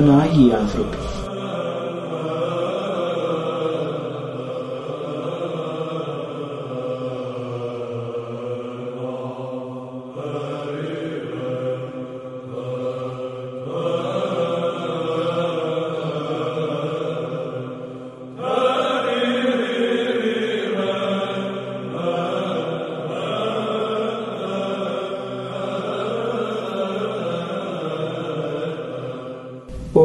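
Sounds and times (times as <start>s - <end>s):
low sung drone: 0.0s - 7.6s, 8.4s - 30.0s
church chant singing: 0.0s - 30.0s.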